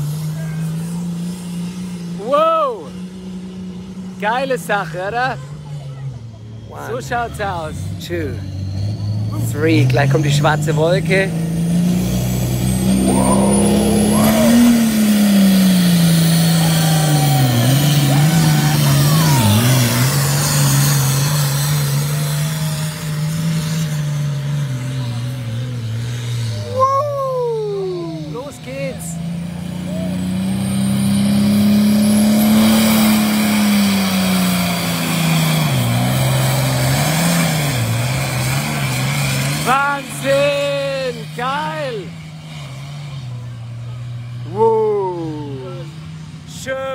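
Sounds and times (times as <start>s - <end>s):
tractor diesel engine under load: 5.5s - 26.9s, 27.8s - 46.9s.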